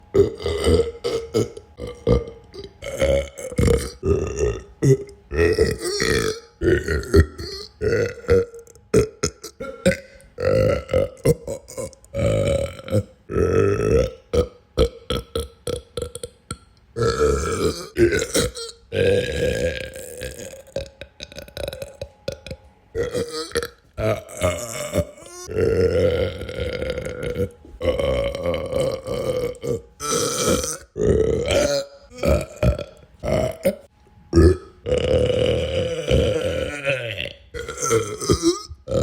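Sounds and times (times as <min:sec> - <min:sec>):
person belching: 0:00.1 - 0:39.0.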